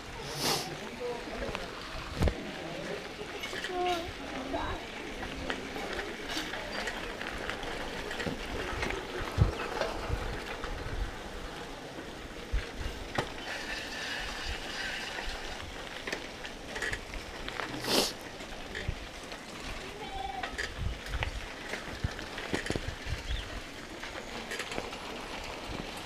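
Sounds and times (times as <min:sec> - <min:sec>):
bike rattling: 0:00.0 - 0:26.0.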